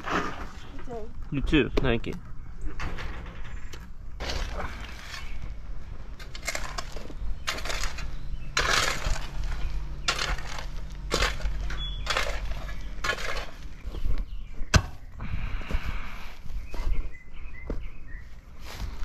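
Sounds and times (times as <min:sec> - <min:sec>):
gravel crunching: 0:00.0 - 0:19.0.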